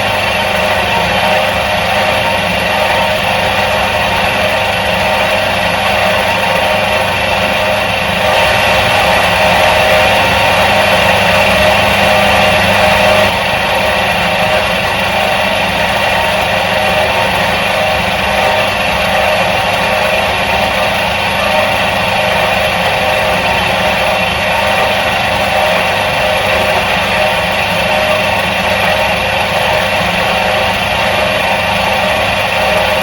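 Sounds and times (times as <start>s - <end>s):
washing machine motor humming: 0.0s - 33.0s.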